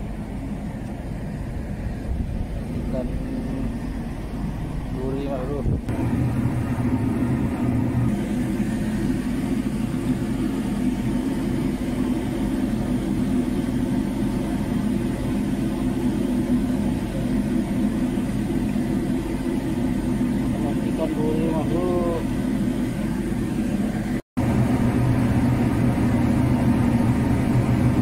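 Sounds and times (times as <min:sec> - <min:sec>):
ship's engine droning: 0:00.0 - 0:28.0.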